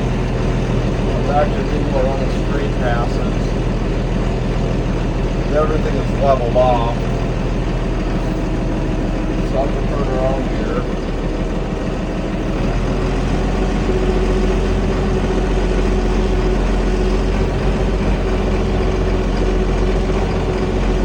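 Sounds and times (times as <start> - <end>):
thin steady whine: 0.0 - 21.0
tractor diesel engine running: 0.0 - 21.0.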